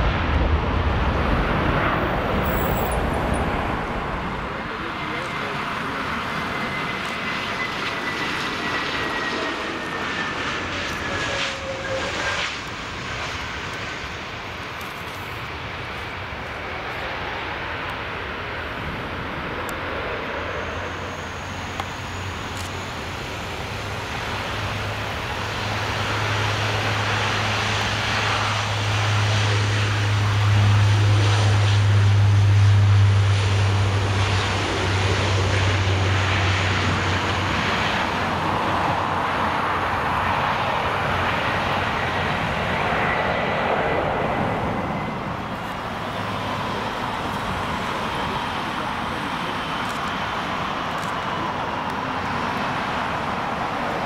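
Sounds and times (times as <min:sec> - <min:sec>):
aircraft engine hum: 0:00.0 - 0:54.0
turboprop propeller drone: 0:00.0 - 0:54.0.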